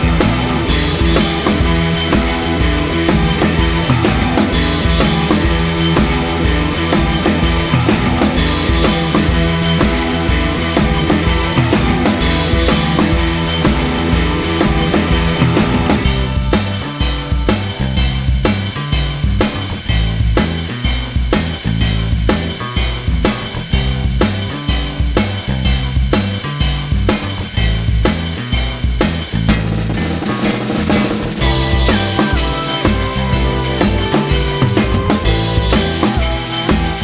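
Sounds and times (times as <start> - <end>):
music with drum beat and bass: 0.0 - 37.0.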